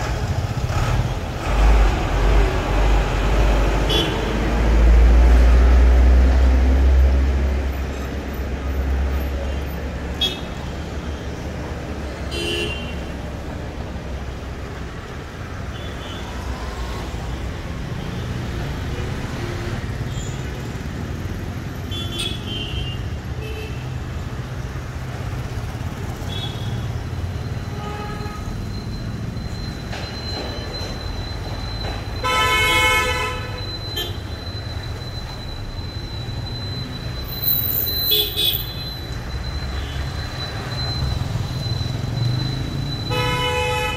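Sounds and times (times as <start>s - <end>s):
heavy vehicle rumble: 0.0s - 22.4s, 24.0s - 43.9s
traffic engines and tyres: 0.0s - 43.9s.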